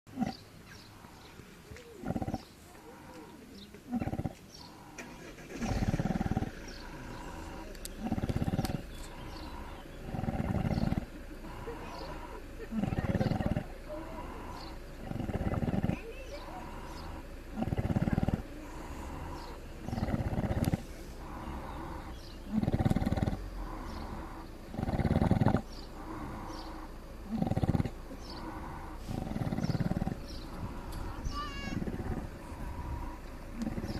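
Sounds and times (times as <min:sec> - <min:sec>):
pig snoring: 0:00.1 - 0:00.4, 0:02.0 - 0:03.3, 0:03.9 - 0:33.9
pig breathing: 0:00.2 - 0:33.9.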